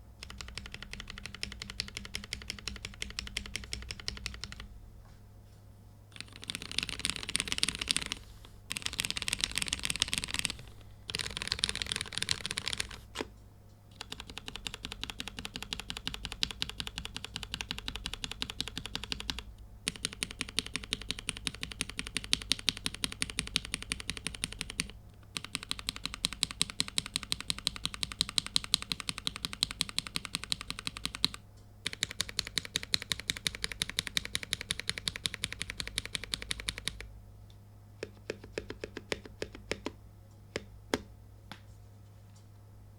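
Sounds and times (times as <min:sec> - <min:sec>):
mechanical keyboard typing: 0:00.2 - 0:04.7, 0:06.2 - 0:13.3, 0:13.9 - 0:37.1, 0:38.0 - 0:40.0.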